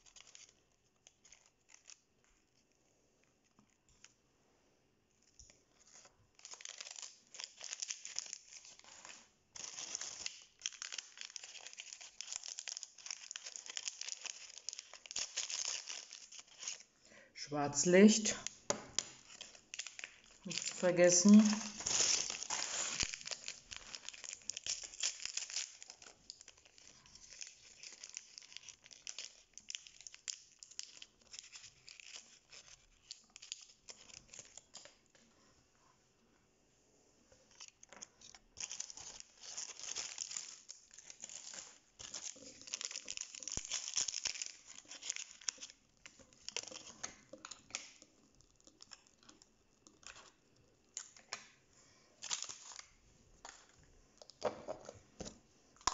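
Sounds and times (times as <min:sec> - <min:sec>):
plastic wrapping crinkling and tearing: 0:00.0 - 0:02.6, 0:05.5 - 0:17.0, 0:18.0 - 0:35.2, 0:37.5 - 0:55.9.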